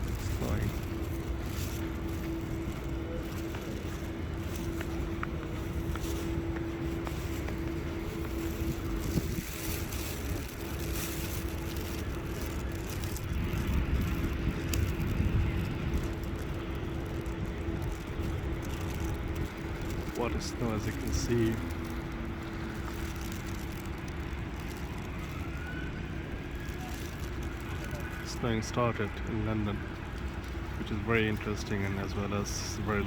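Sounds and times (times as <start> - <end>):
steady hum: 0.0 - 33.0
traffic rumble: 0.0 - 33.0.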